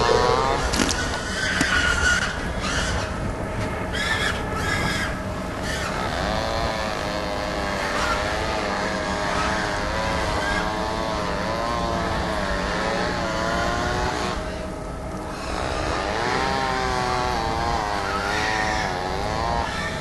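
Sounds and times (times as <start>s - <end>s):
low engine-like drone: 0.0s - 20.0s.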